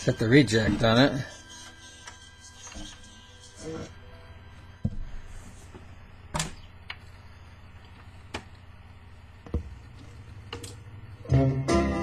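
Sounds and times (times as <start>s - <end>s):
record changer hum: 0.0s - 12.0s.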